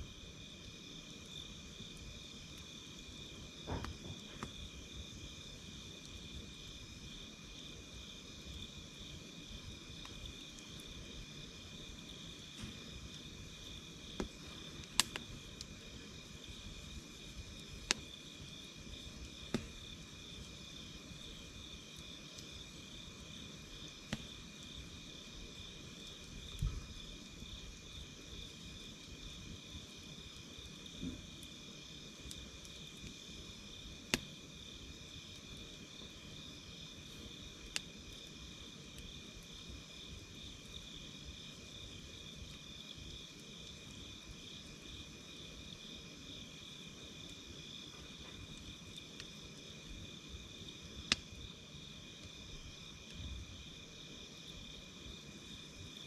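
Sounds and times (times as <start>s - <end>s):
campfire wood crackling: 0.0s - 56.0s
night insects trilling: 0.0s - 56.0s.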